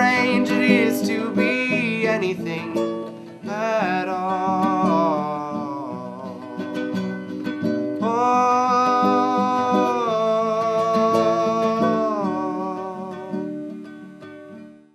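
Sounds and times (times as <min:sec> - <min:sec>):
wordless sung notes: 0:00.0 - 0:14.7
acoustic guitar strumming: 0:00.0 - 0:14.9.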